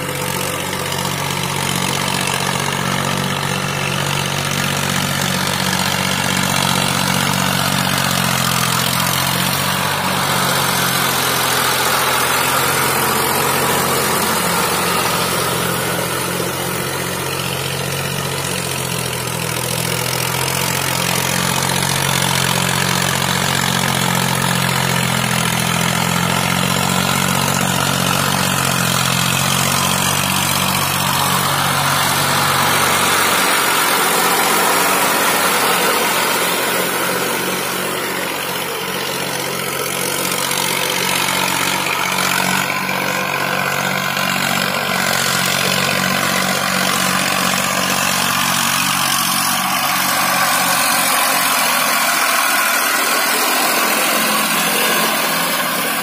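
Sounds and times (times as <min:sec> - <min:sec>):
diesel tractor engine under load: 0:00.0 - 0:56.0.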